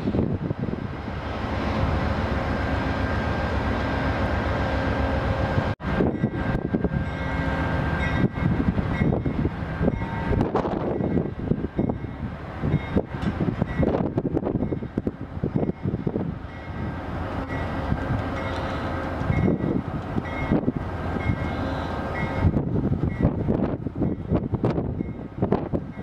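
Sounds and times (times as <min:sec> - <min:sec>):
diesel locomotive engine rumbling: 0:00.0 - 0:26.0.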